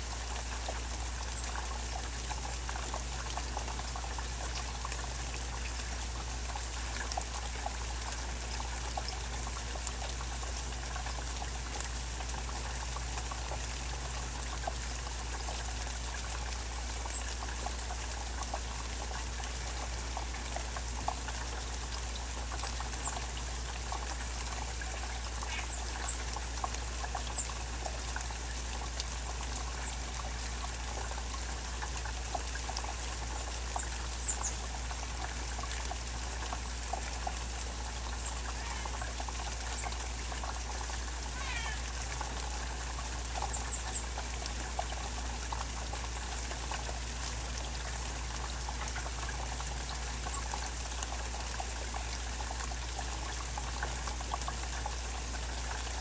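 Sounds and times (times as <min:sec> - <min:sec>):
rain falling and dripping: 0:00.0 - 0:56.0
water trickling: 0:00.0 - 0:56.0.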